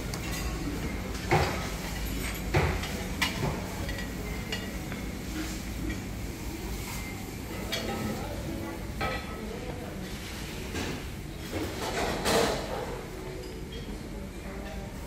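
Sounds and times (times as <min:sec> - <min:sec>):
low restaurant hum: 0:00.0 - 0:15.0.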